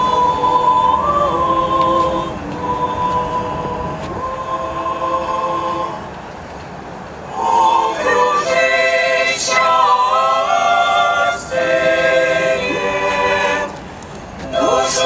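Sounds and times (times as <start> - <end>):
group of voices singing: 0.0 - 6.2, 7.3 - 15.0.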